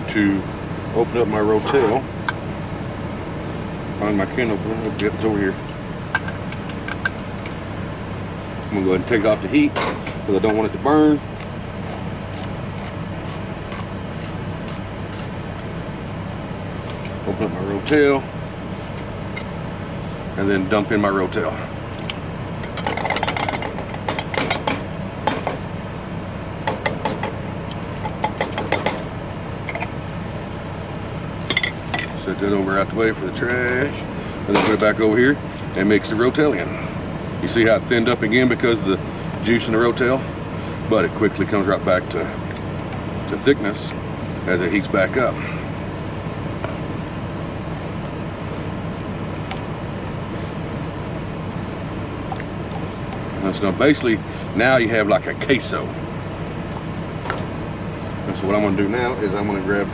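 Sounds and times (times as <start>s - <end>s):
steady low hum: 0.0s - 59.9s
truck engine idling: 0.0s - 59.9s.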